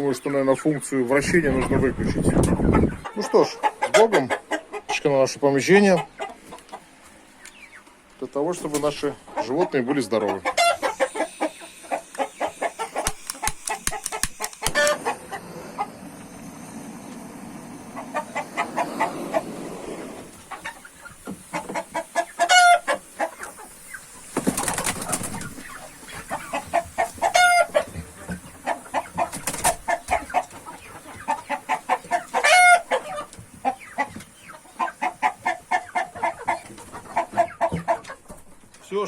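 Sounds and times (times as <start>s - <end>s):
hens clucking: 0.0s - 39.0s.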